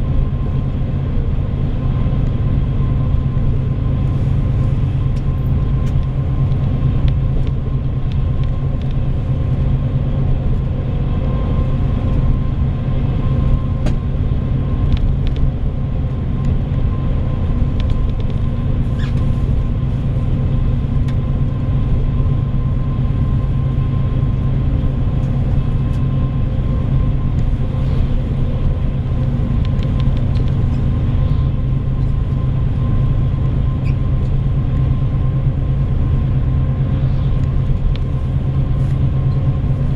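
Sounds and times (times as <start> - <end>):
bus engine and tyre drone: 0.0 - 39.9.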